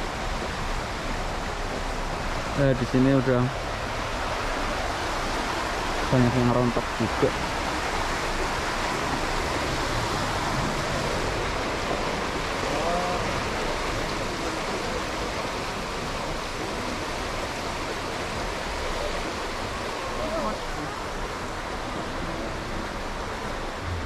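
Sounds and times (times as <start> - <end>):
water rushing down cascades: 0.0 - 24.0.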